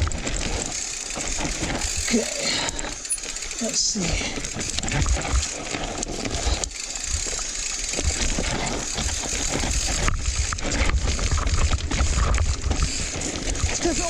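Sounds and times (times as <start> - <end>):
bike rattling over bumps: 0.0 - 14.0
tyres crunching on loose dirt: 0.0 - 14.0.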